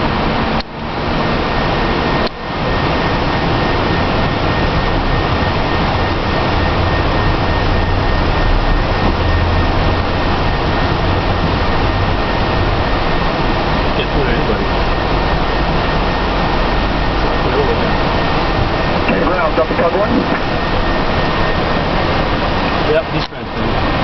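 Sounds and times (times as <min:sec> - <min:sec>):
cockpit hiss and rumble: 0:00.0 - 0:24.0
low hum: 0:00.0 - 0:24.0.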